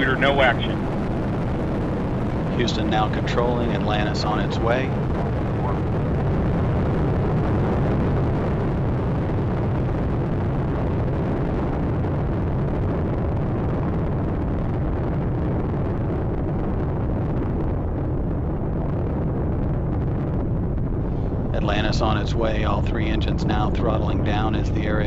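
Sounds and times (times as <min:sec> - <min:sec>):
deep rocket roar: 0:00.0 - 0:25.0.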